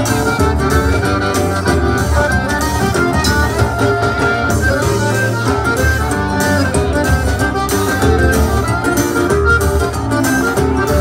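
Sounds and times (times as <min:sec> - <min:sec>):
accordion lead: 0:00.0 - 0:11.0
bass: 0:00.0 - 0:11.0
drum kit: 0:00.0 - 0:11.0
electric guitar: 0:00.0 - 0:11.0.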